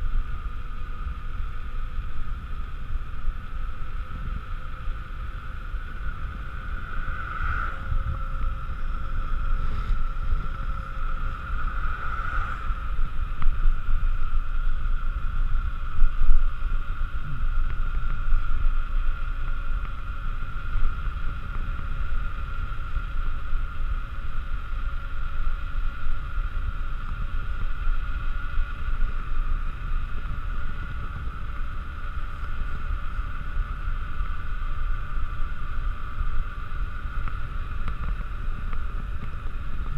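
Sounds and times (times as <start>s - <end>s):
bike tyres humming on asphalt: 0.0s - 39.9s
wind buffeting microphone: 0.0s - 39.9s.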